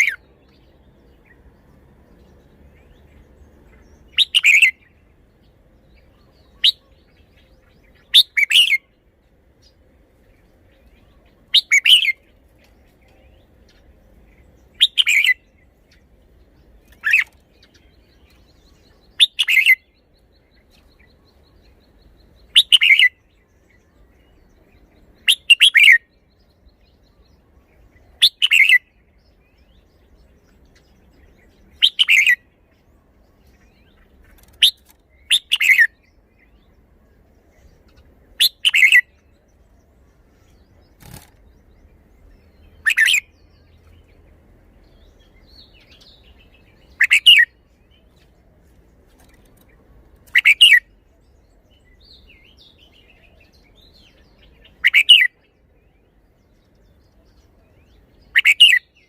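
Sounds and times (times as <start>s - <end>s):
bird singing song phrases: 0.0s - 59.0s.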